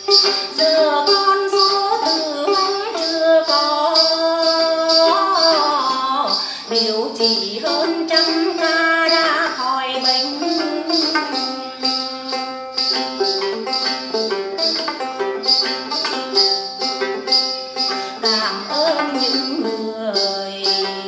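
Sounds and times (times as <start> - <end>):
jingling beat: 0.0 - 21.0
plucked lute: 0.0 - 21.0
woman singing folk song: 0.0 - 21.0.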